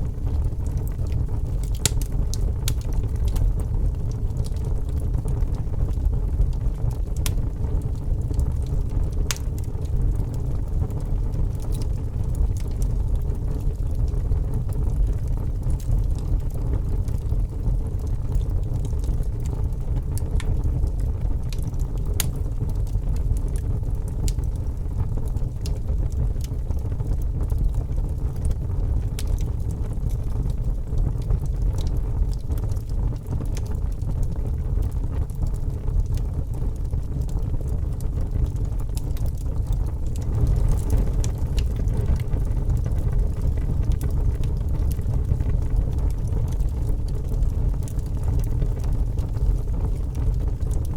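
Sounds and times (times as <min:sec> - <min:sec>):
burning wood crackling and popping: 0:00.0 - 0:50.9
fire rumbling: 0:00.0 - 0:50.9.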